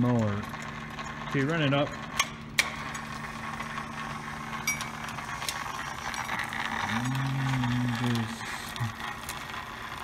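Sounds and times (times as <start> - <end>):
electric chain hoist motor humming: 0.0 - 10.0
low loud hum: 0.0 - 10.0.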